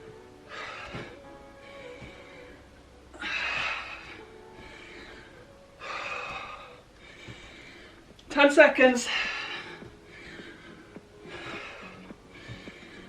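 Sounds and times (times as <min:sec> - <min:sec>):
woman breathing hard: 0:00.0 - 0:08.3, 0:09.0 - 0:13.0.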